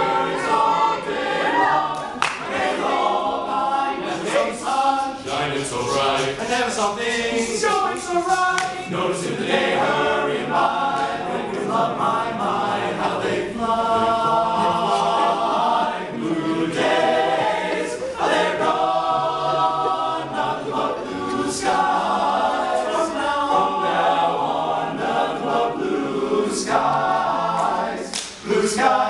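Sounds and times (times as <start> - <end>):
men's chorus singing a cappella: 0.0 - 29.0.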